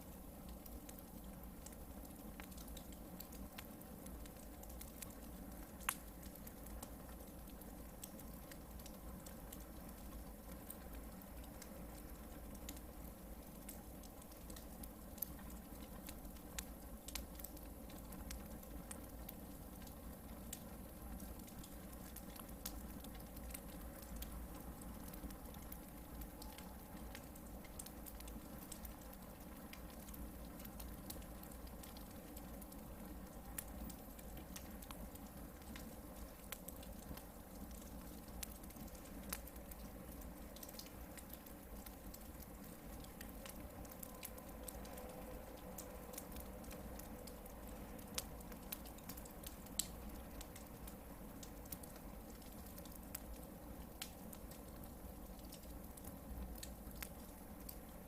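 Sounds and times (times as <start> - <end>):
campfire crackling: 0.0 - 58.0.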